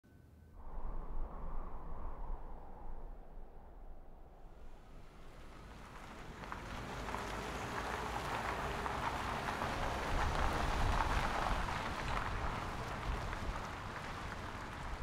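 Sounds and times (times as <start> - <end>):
vehicle engine rumble: 0.6 - 15.0.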